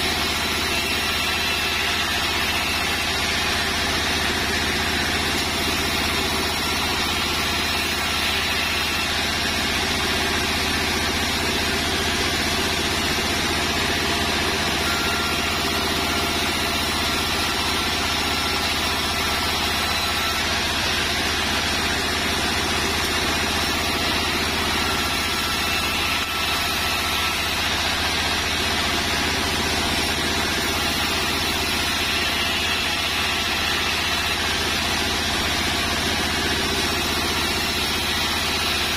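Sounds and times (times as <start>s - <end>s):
band saw ripping wood: 0.0s - 38.9s.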